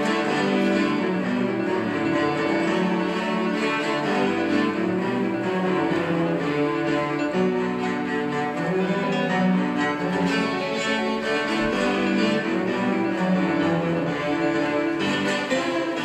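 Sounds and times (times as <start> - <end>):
cello ensemble playing: 0.0 - 16.0.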